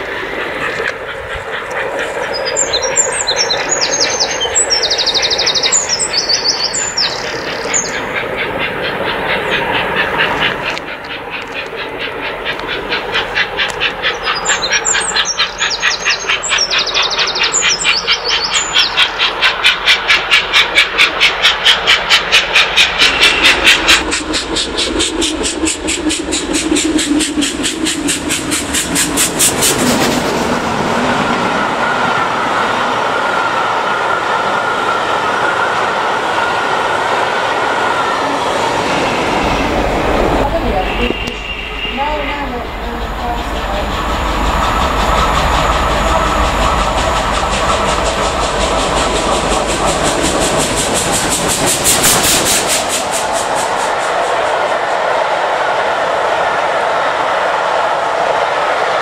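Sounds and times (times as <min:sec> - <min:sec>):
steam locomotive exhaust beats: 0:00.0 - 0:59.0
train coaches rushing and clattering: 0:00.0 - 0:59.0.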